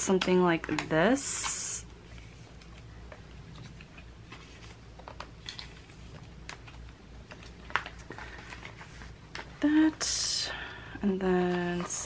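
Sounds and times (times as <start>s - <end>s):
plastic sleeves rustling: 0.0s - 10.3s, 11.0s - 12.0s.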